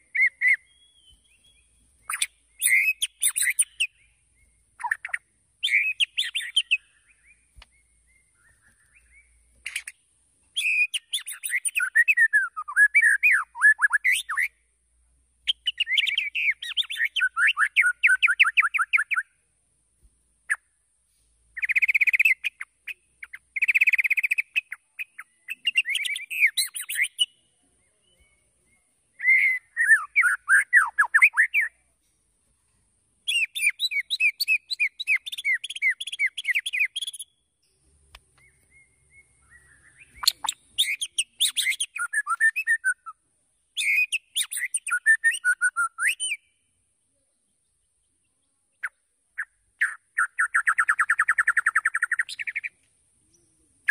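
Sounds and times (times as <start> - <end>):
bird singing: 0.0 - 32.3, 33.2 - 53.9.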